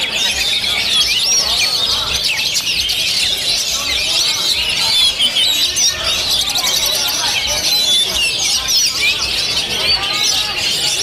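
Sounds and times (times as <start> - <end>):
songbirds whistling and chirping: 0.0 - 11.0.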